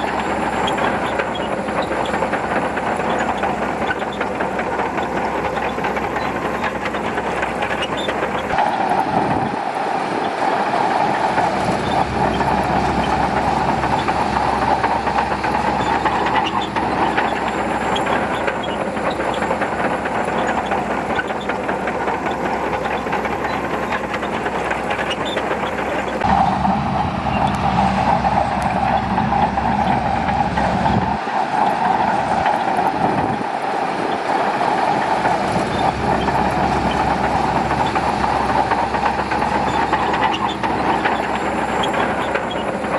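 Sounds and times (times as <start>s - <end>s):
bulldozer diesel engine: 0.0s - 42.9s
crawler tracks clattering: 0.0s - 42.9s.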